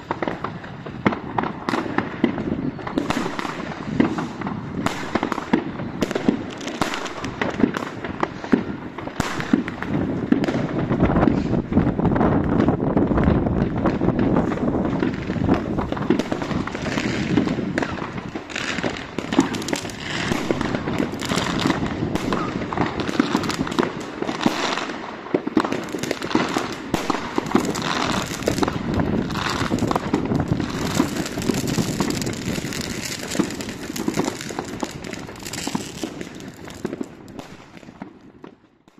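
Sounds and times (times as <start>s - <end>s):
rockets bursting: 0.0s - 38.6s
firecrackers banging and crackling: 0.0s - 38.9s.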